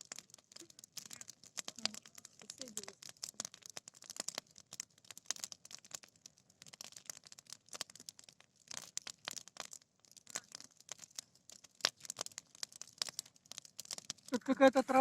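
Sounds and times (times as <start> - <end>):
dry grass fire crackling: 0.0 - 15.0.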